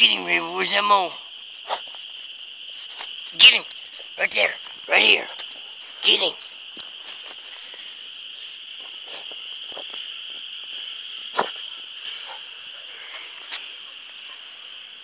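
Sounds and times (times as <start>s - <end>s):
high-pitched insect chirring: 0.0s - 15.0s.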